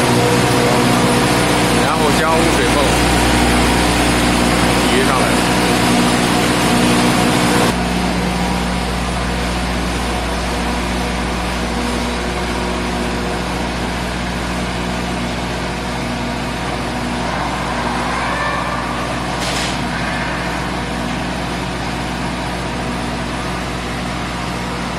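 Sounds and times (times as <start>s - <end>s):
generator engine drone: 0.0s - 24.9s.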